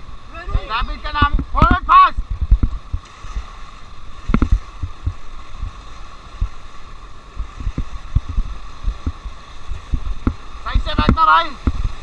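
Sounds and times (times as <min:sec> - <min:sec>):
rushing river water: 0:00.0 - 0:12.0
wind buffeting microphone: 0:00.0 - 0:12.0.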